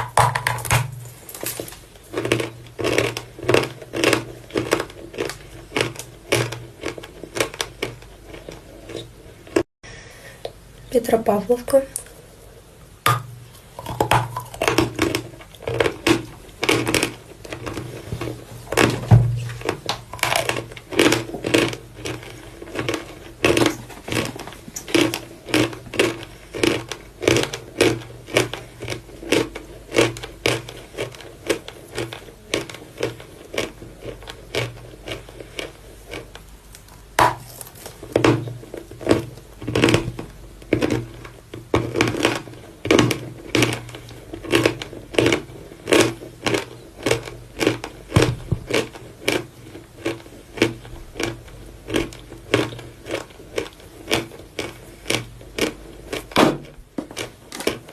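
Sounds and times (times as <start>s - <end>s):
chalk crunching while chewed: 0.0s - 9.6s, 13.8s - 56.4s.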